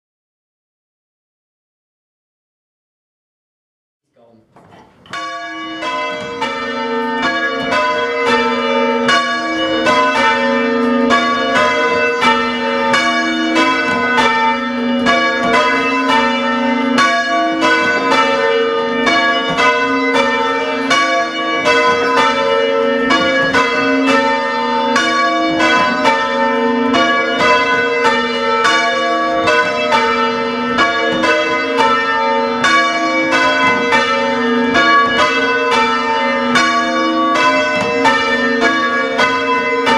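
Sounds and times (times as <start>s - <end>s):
church bells change ringing: 4.8s - 39.9s.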